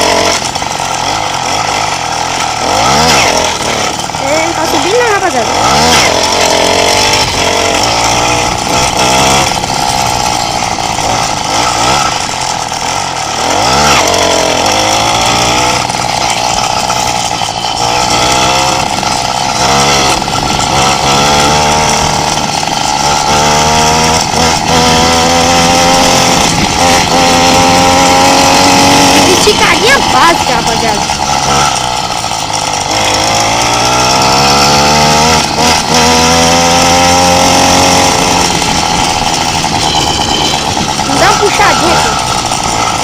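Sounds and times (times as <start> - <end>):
small motorbike engine revving: 0.0 - 43.0.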